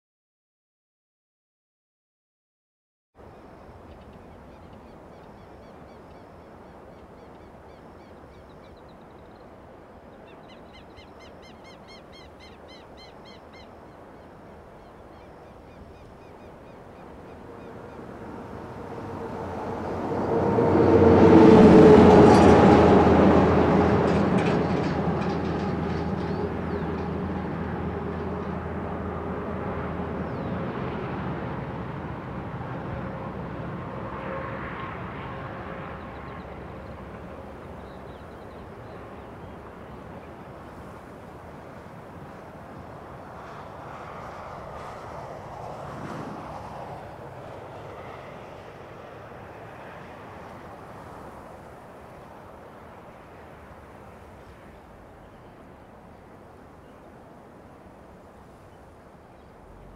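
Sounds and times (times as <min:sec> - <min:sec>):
vehicle passing on road: 0:11.4 - 0:59.9.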